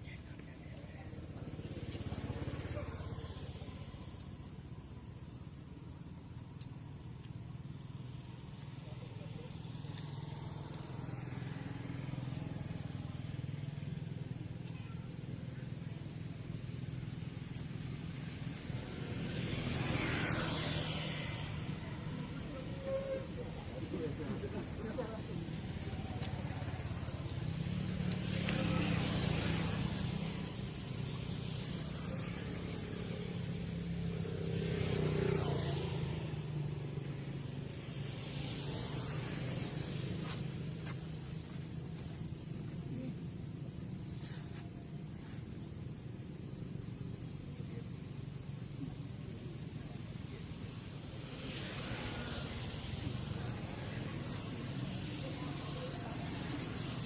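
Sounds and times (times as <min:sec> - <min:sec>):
engine humming steadily: 0:00.0 - 0:57.0
vehicles passing: 0:00.0 - 0:57.0.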